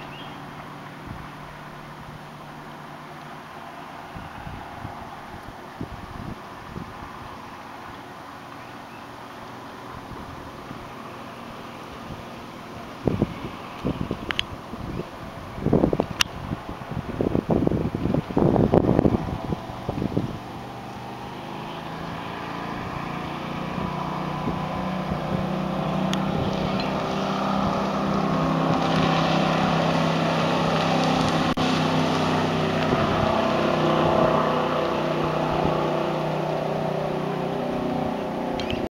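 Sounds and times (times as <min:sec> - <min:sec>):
motorboat engine passing: 0:00.0 - 0:38.9
water rushing: 0:00.0 - 0:38.9.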